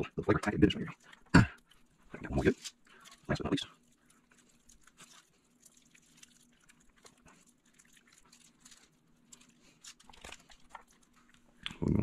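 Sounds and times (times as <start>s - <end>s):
faint steady hum: 0.0s - 12.0s
hands rustling stuffing fish: 1.0s - 11.6s.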